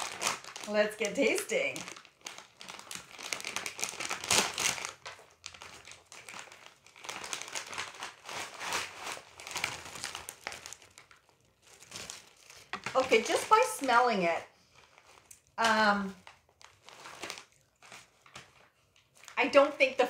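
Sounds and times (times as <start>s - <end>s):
chip bag crinkling: 0.0s - 20.0s.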